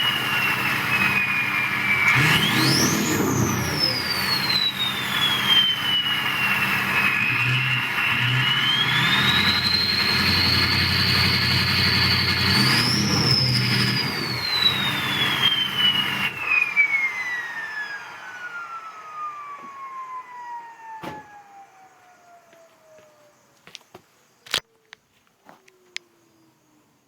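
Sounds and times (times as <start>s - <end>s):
diesel engine running: 0.0s - 23.4s
turbocharger whistle: 0.0s - 23.5s.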